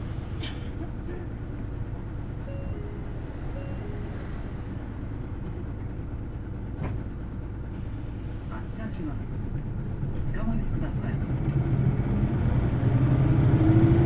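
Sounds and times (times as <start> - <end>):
bus drivetrain hum: 0.0 - 14.0.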